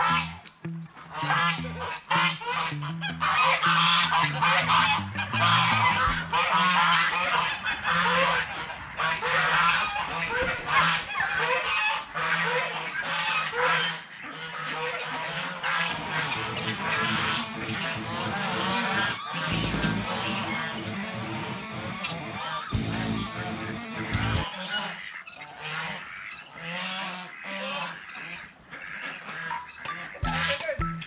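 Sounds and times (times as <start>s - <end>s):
geese honking: 0.0s - 31.0s.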